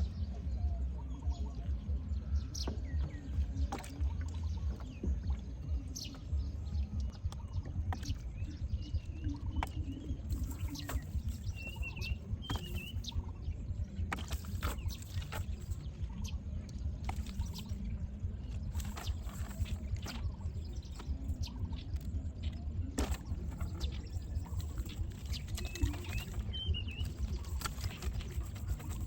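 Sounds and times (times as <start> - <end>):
bird chirps: 0.0 - 29.0
steady low rumble: 0.0 - 29.0
water splashing and dripping: 2.6 - 13.4, 14.0 - 29.0.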